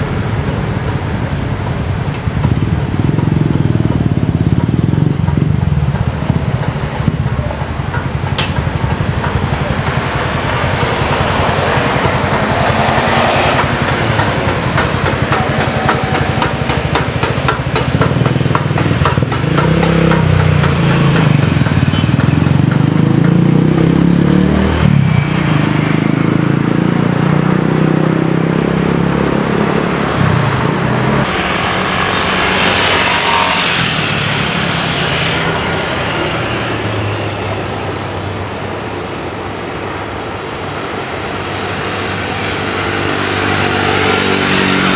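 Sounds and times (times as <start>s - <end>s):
loud engine noise: 0.0s - 44.9s.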